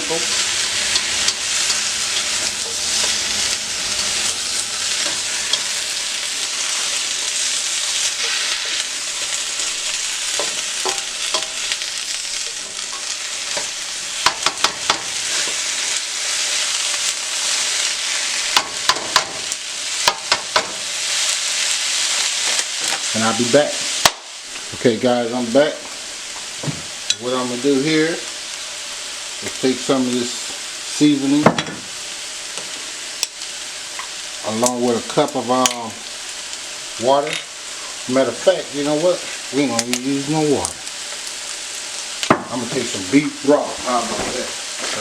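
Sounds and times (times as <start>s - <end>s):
vegetables sizzling in hot oil: 0.0s - 45.0s.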